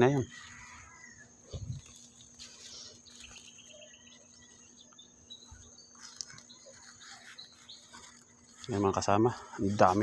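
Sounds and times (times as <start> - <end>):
faint chirps: 0.0 - 10.0
insects trilling: 0.0 - 10.0.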